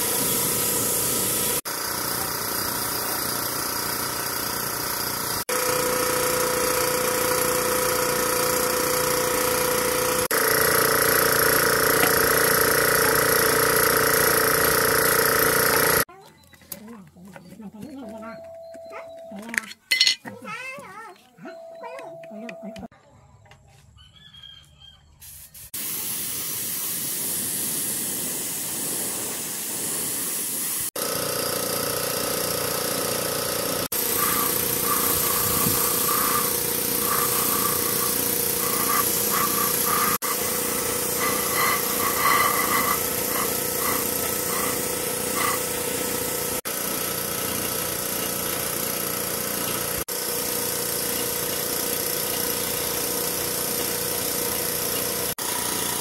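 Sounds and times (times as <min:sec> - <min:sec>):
machine hissing: 0:00.0 - 0:16.1, 0:25.6 - 0:56.0.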